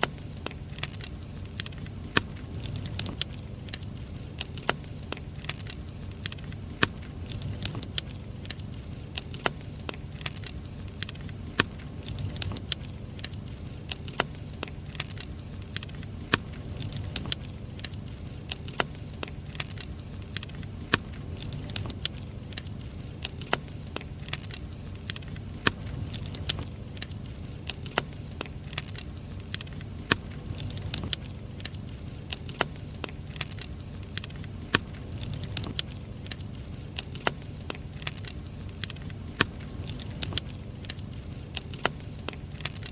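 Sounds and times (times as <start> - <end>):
firewood popping and snapping: 0.0 - 42.9
low fire rumble: 0.0 - 42.9.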